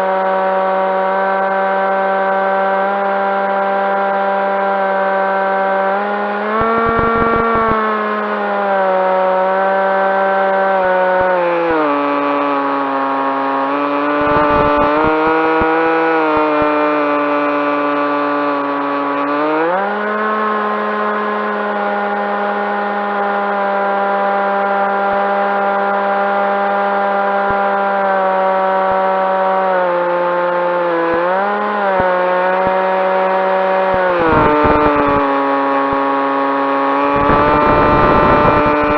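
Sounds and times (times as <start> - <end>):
electric motor and propeller whine: 0.0 - 38.9.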